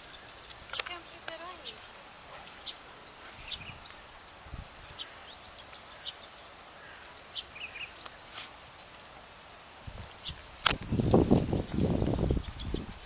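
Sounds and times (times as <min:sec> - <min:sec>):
small bird chirping: 0:00.0 - 0:08.2, 0:10.1 - 0:13.0
steady outdoor hiss: 0:00.0 - 0:13.0.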